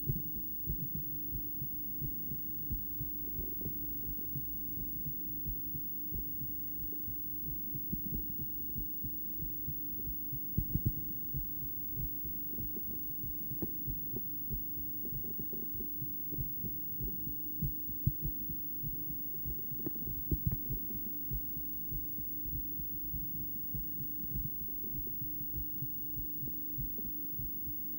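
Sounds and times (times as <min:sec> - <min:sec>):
heartbeat thumps: 0:00.0 - 0:27.9
steady low hum: 0:00.0 - 0:27.9.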